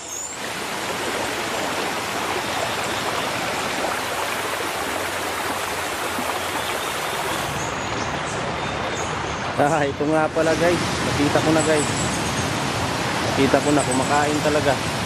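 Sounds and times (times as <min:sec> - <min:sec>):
stream splashing over rocks: 0:00.0 - 0:15.0.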